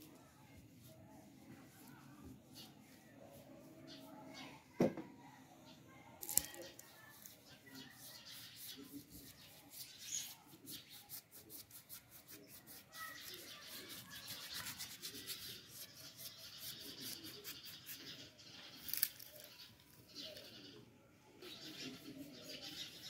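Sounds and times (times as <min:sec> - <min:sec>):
paintbrush scrubbing on terracotta: 0:00.0 - 0:04.6, 0:06.3 - 0:19.6, 0:21.4 - 0:23.0.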